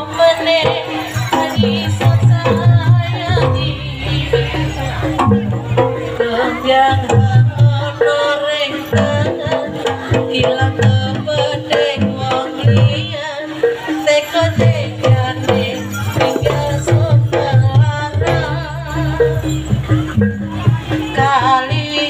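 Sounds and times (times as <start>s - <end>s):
hand drums beating: 0.0s - 22.0s
wavering melody: 0.0s - 22.0s.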